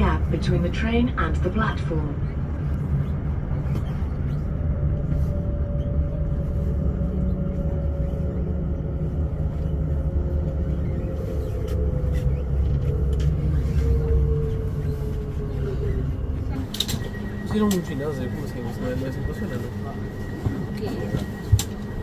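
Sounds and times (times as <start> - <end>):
low rumble of running train: 0.0 - 22.0
train motor whine: 3.5 - 22.0.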